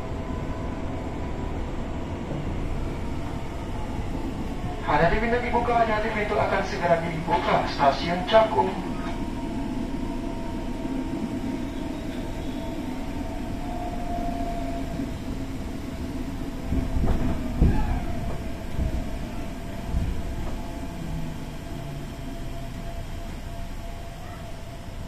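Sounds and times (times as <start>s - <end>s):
electric train whine: 0.0s - 25.0s
train wheels rumbling: 0.0s - 25.0s.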